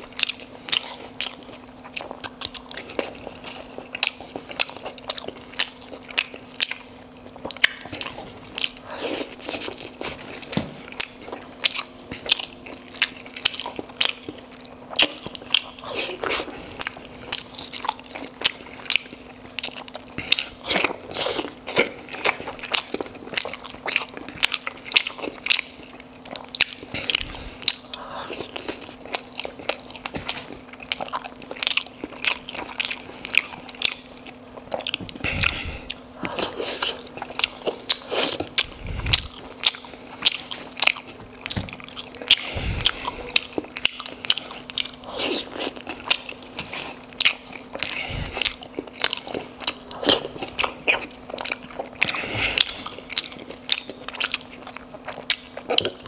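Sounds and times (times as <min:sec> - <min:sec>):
chewing dumplings: 0:00.0 - 0:56.0
faint low hum: 0:00.0 - 0:56.0.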